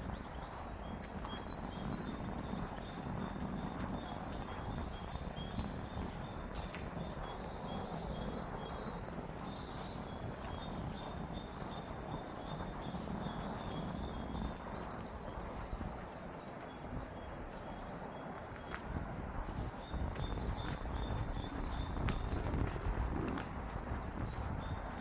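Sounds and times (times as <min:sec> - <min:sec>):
low outdoor background noise: 0:00.0 - 0:25.0
small birds chirping: 0:00.0 - 0:25.0.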